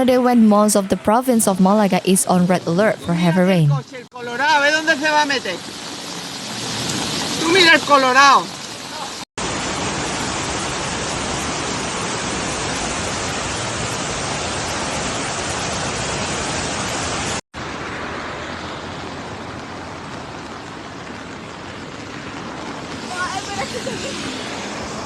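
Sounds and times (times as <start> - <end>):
floodwater rushing: 3.8 - 25.0.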